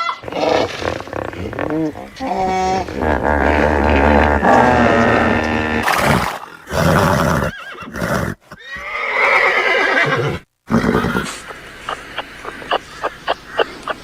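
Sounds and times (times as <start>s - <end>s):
horse whinnying: 0.0s - 11.5s.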